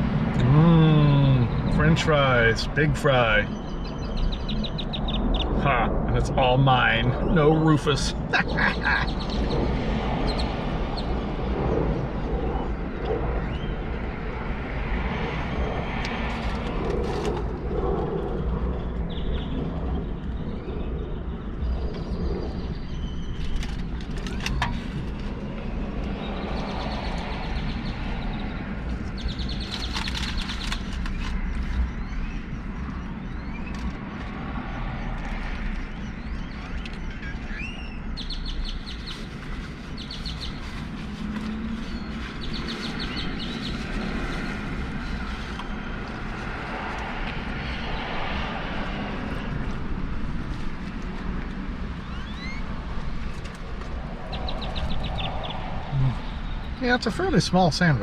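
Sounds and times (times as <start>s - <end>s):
road traffic rumble: 0.0s - 58.0s
birds chirping: 0.4s - 58.0s.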